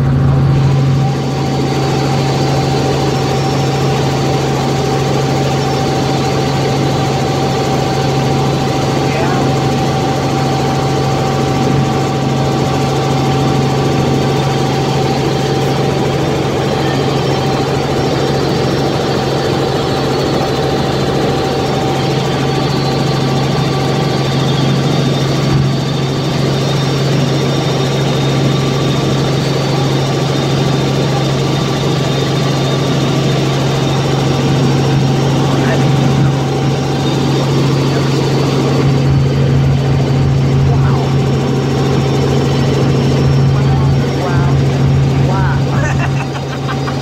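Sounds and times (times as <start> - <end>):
helicopter cabin drone: 0.0 - 47.0
steady high whine: 0.0 - 47.0.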